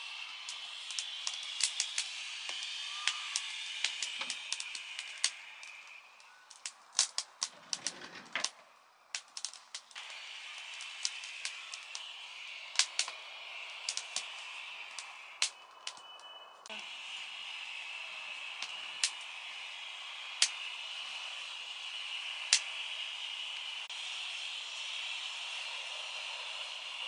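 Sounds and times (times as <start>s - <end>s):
steady hiss: 0.0s - 27.0s
wood fire crackling and popping: 0.0s - 27.0s.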